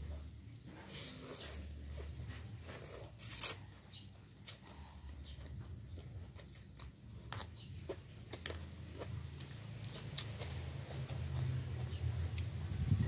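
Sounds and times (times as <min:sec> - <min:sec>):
person chewing food: 0:01.0 - 0:12.5.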